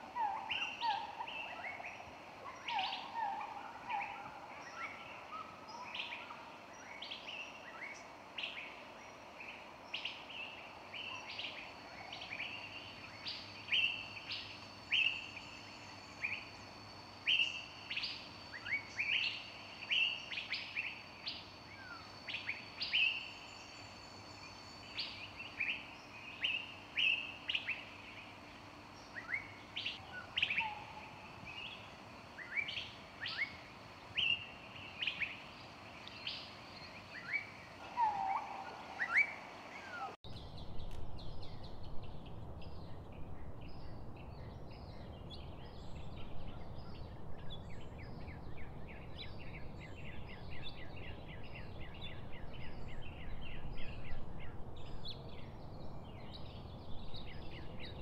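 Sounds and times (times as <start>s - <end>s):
small songbirds chirping: 0.0s - 58.0s.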